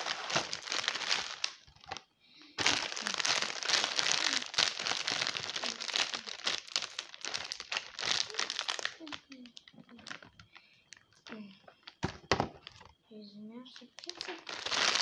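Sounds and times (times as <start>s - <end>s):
plastic bag crinkling: 0.0s - 13.0s, 13.6s - 15.0s.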